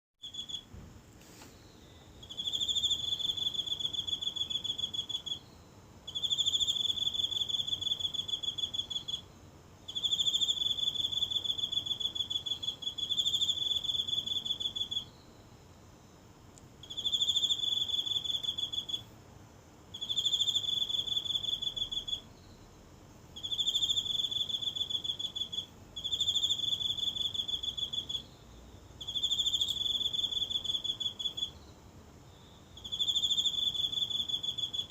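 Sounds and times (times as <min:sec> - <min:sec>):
insect trilling: 0:00.2 - 0:00.7, 0:01.7 - 0:16.2, 0:16.8 - 0:19.1, 0:19.8 - 0:34.9.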